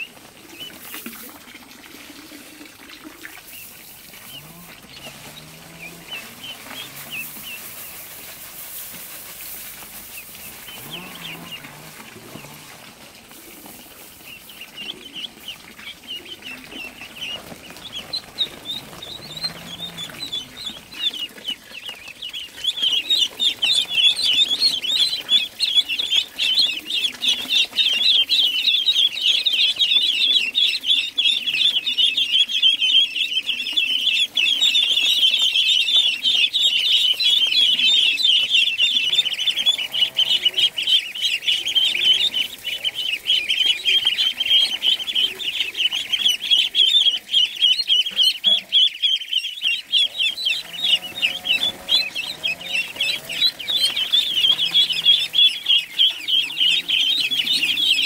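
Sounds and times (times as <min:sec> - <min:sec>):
goslings peeping: 0:00.0 - 0:58.0.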